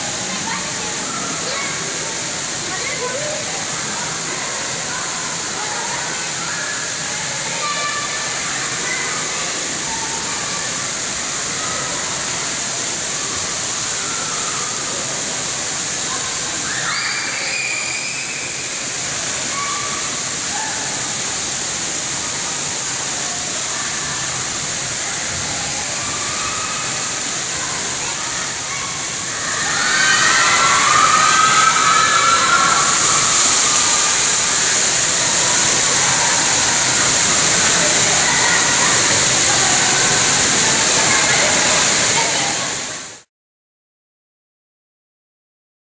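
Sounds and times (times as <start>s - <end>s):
children calling: 0.0s - 43.0s
water spraying and splashing: 0.0s - 43.3s.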